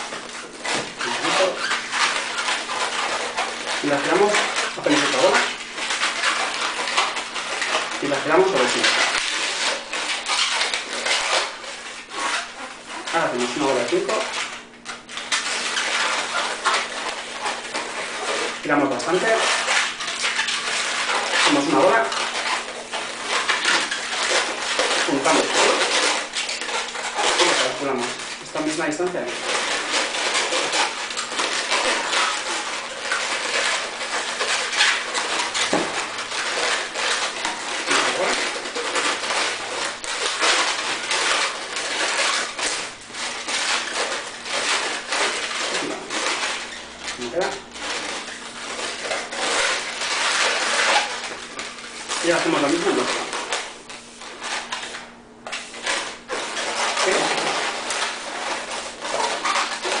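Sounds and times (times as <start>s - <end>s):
balloon squeaking and rubbing: 0.0s - 60.0s.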